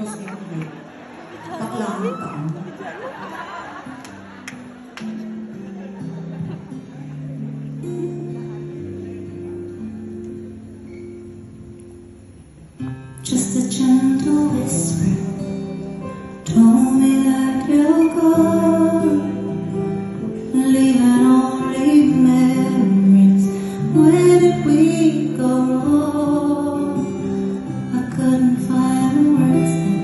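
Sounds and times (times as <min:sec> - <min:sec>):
live band music with guitar: 0:00.0 - 0:30.0.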